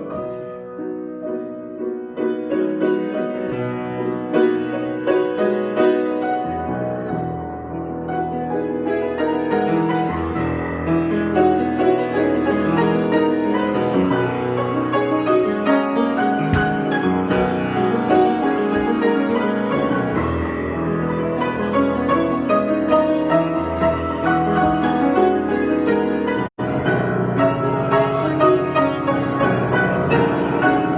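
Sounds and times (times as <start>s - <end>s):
piano chords: 0.0s - 30.9s.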